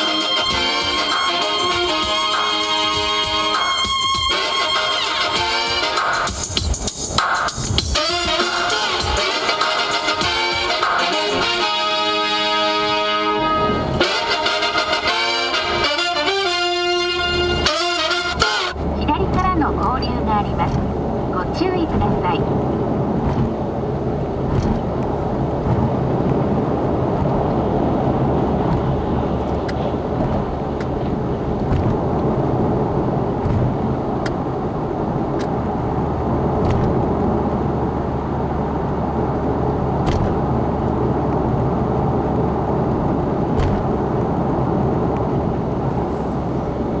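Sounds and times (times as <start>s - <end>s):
car road and engine noise: 0.0s - 47.0s.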